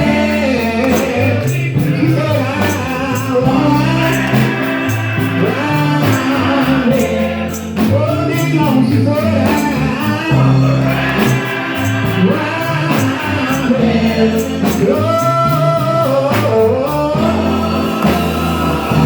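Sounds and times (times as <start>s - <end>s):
band accompaniment: 0.0s - 19.0s
gospel group singing: 0.0s - 19.0s.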